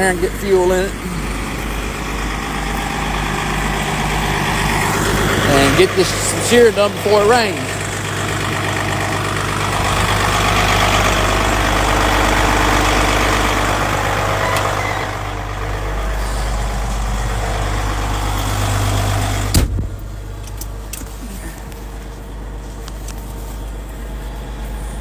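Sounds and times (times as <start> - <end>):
bulldozer diesel engine rattling: 0.0 - 25.0.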